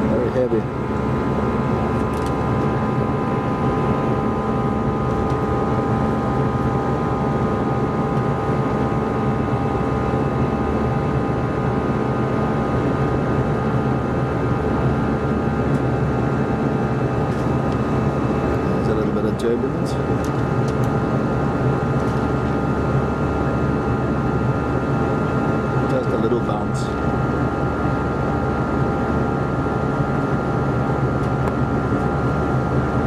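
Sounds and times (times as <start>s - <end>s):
aircraft engine rumble: 0.0s - 33.0s.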